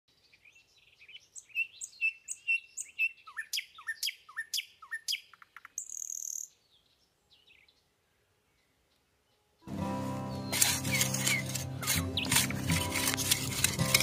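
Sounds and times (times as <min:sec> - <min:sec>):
birds chirping: 0:00.1 - 0:13.2.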